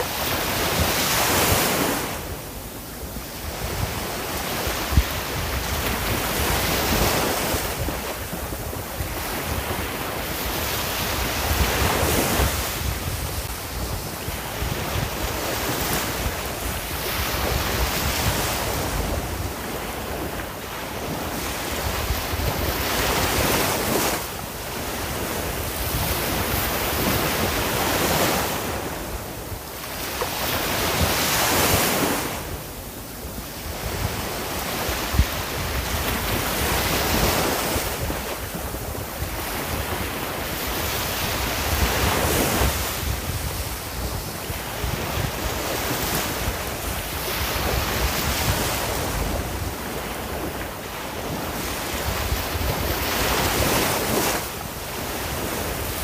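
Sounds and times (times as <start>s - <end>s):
sea waves washing onto shore: 0.0s - 56.0s
wind rumble on microphone: 0.0s - 56.0s.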